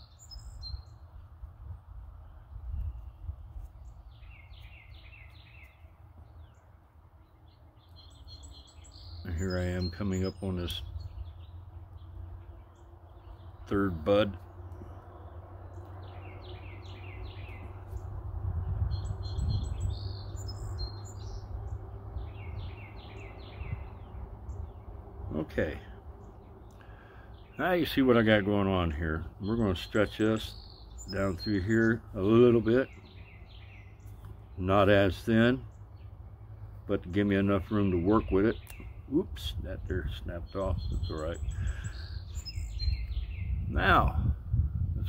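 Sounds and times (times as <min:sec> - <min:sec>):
low outdoor rumble: 0:00.0 - 0:45.0
songbird calling: 0:00.0 - 0:45.0.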